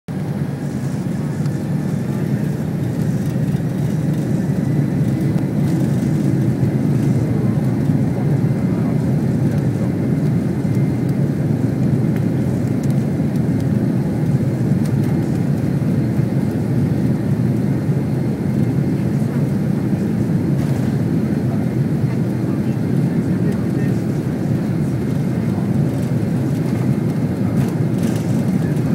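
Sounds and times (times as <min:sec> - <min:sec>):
jet engines rumbling from cabin: 0:00.1 - 0:28.9.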